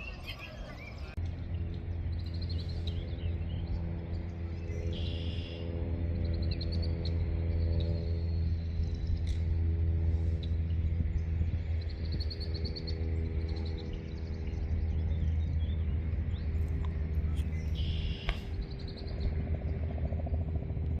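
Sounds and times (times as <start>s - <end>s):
small birds chirping: 0.0s - 20.2s
loud steady low hum: 0.0s - 21.0s.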